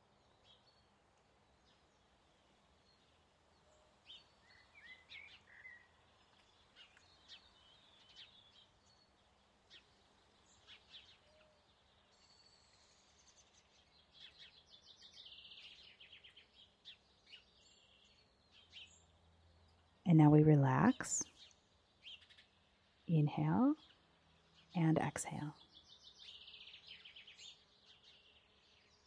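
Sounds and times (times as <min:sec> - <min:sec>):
faint birdsong: 0:00.0 - 0:29.0.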